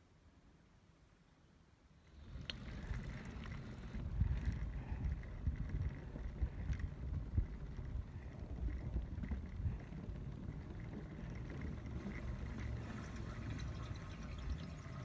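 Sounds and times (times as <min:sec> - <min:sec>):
wind buffeting microphone: 0:02.2 - 0:15.0.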